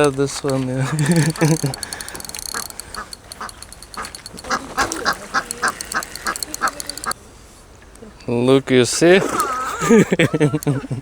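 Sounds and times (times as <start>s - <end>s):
ducks quacking: 0.0s - 7.2s, 9.0s - 10.7s.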